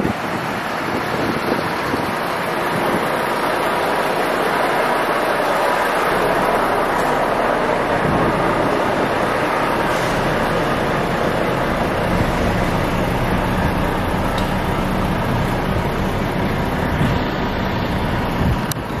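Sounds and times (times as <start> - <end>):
loud rushing noise: 0.0 - 19.0
vehicle engine running: 0.0 - 19.0.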